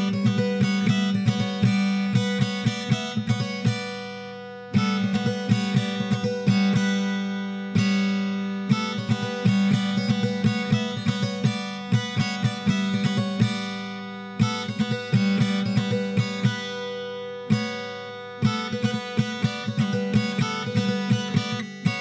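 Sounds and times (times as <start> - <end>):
plucked strings music: 0.0 - 22.0.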